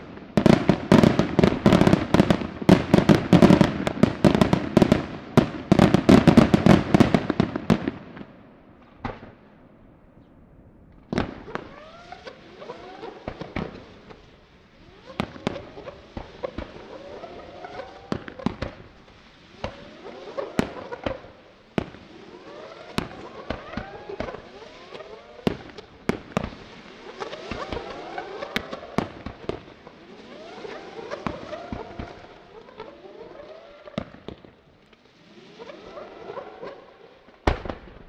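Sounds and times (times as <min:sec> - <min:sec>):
firework whistles: 0:00.0 - 0:08.0, 0:11.0 - 0:38.0
firework bangs: 0:00.0 - 0:10.0, 0:11.0 - 0:38.0.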